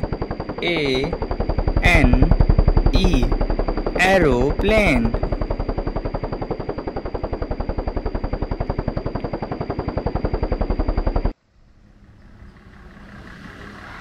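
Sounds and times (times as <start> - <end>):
propeller plane engine: 0.0 - 14.0.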